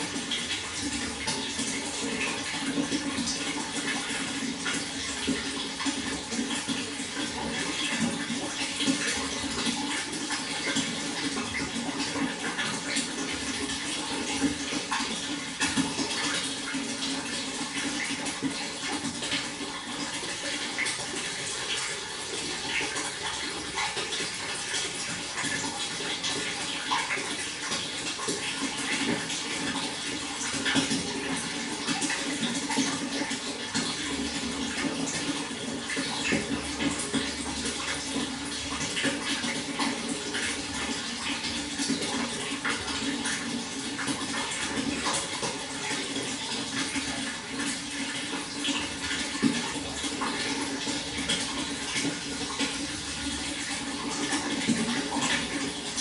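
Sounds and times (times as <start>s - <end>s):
water flowing with splashes: 0.0s - 56.0s.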